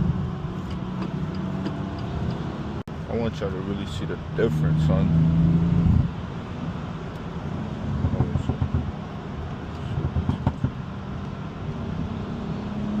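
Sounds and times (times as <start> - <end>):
car engine and exhaust drone: 0.0 - 13.0.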